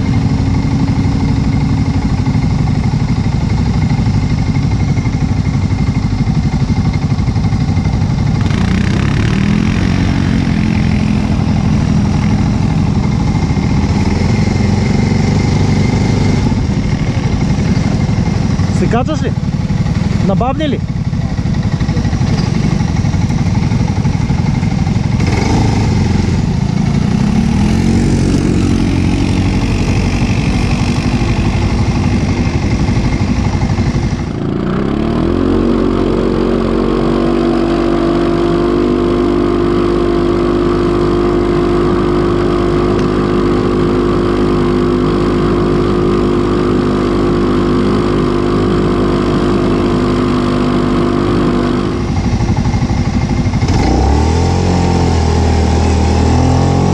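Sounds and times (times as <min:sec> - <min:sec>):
atv engines revving: 0:00.0 - 0:56.9.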